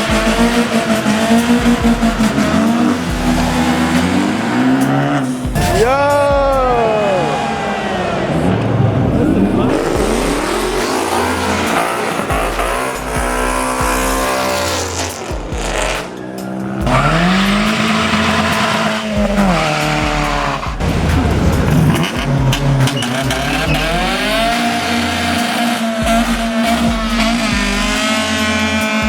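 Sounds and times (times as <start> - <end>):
car engine revving: 0.0 - 29.0
tyres squealing: 0.0 - 29.0.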